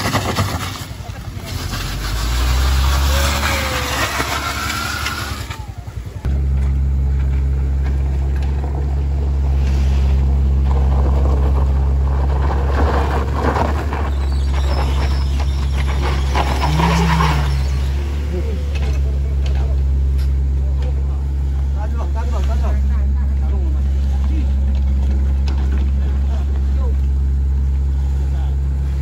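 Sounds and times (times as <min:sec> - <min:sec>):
low engine drone: 0:00.0 - 0:29.0
tyres crunching on gravel: 0:00.0 - 0:29.0.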